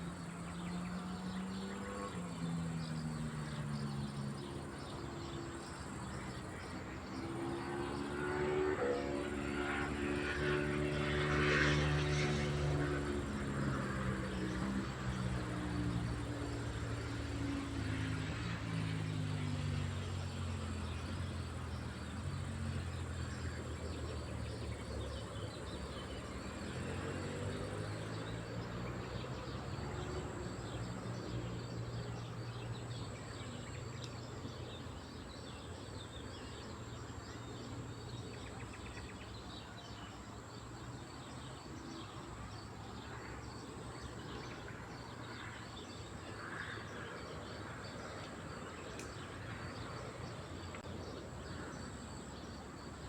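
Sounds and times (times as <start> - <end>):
birds: 0.0 - 53.0
faint insects: 0.0 - 53.0
propeller airplane engine drone: 0.0 - 53.0.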